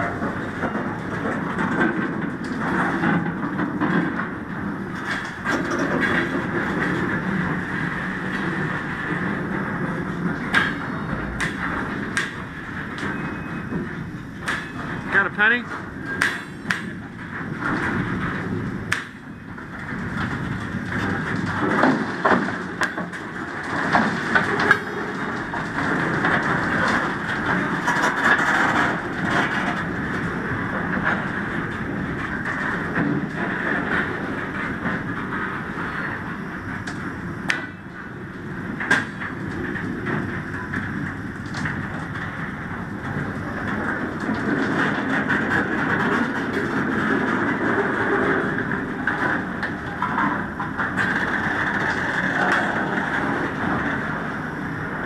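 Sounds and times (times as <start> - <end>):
steel wheels rumbling on rail: 0.0 - 55.0
train cars clanking: 0.0 - 55.0.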